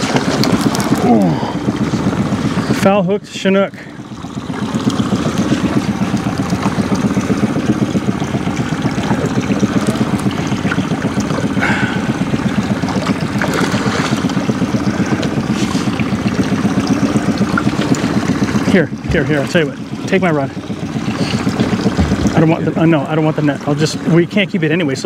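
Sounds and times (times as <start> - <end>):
outboard motor running: 0.0 - 25.0
water sloshing: 0.0 - 25.0.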